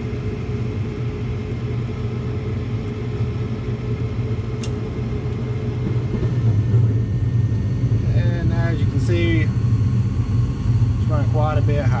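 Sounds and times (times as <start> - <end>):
gas furnace burner rumble: 0.0 - 12.0.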